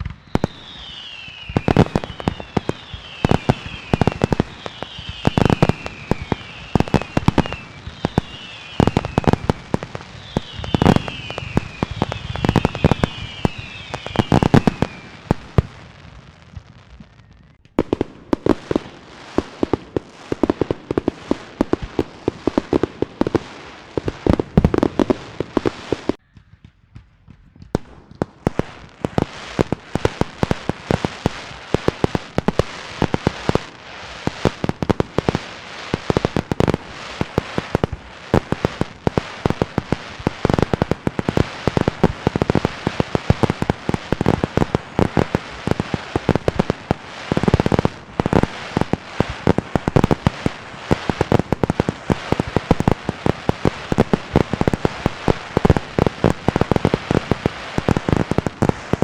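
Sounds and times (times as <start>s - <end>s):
fireworks and firecrackers popping: 0.0s - 59.0s.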